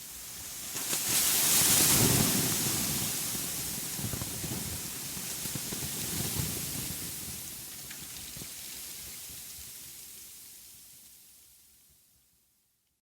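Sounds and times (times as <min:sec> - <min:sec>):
rain-like hiss: 0:00.0 - 0:13.0.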